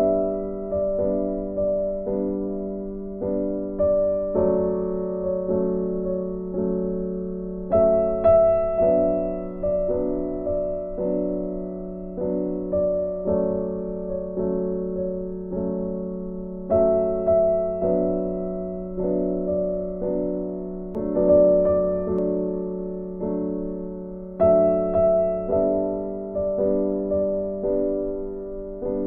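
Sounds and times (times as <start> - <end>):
slow gentle piano music: 0.0 - 29.0.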